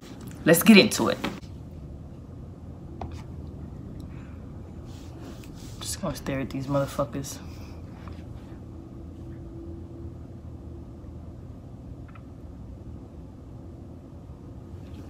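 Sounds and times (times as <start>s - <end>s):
room noise rumble and hiss: 0.0s - 15.0s.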